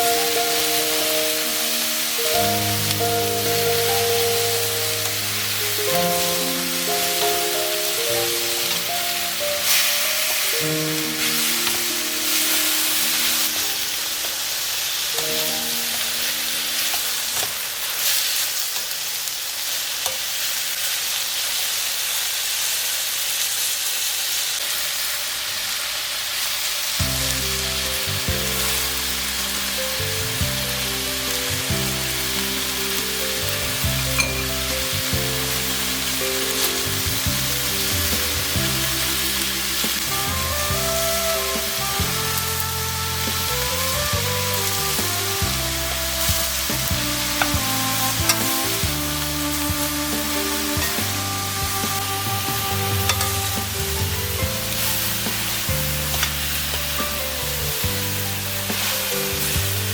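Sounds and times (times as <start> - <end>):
background music: 0.0 - 18.1, 27.0 - 59.9
food sizzling in a hot pan: 0.0 - 59.9.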